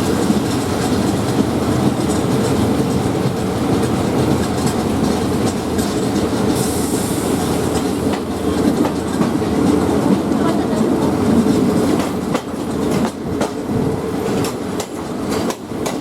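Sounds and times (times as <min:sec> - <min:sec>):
wheels clacking over rail joints: 0:00.0 - 0:06.6, 0:07.4 - 0:16.0
train rumbling on rails: 0:00.0 - 0:16.0.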